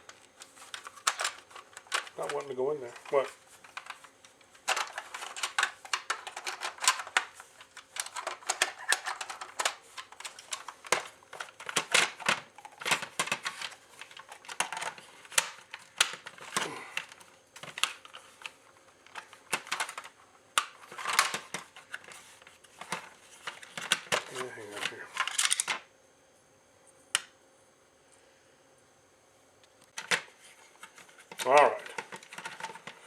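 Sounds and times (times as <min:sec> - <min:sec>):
plastic parts clicking and clattering: 0:00.0 - 0:25.9, 0:29.9 - 0:33.0.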